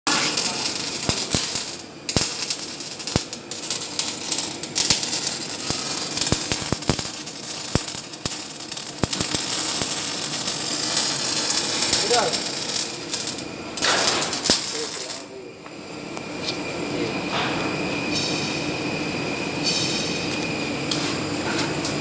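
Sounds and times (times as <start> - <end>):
arc welding hiss and crackle: 0.1 - 15.5, 17.7 - 22.0.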